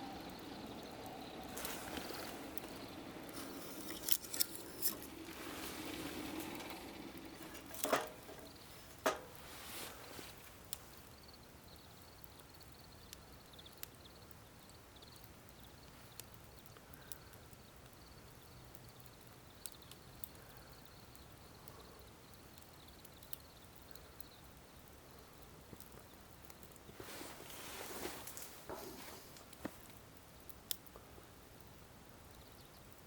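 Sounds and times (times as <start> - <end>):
faint wood fire crackling: 0.0 - 33.0.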